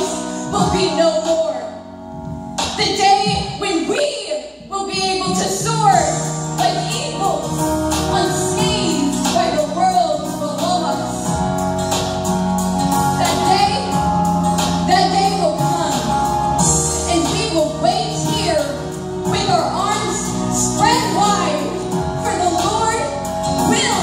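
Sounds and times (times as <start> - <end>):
background music with held chords: 0.0 - 24.0.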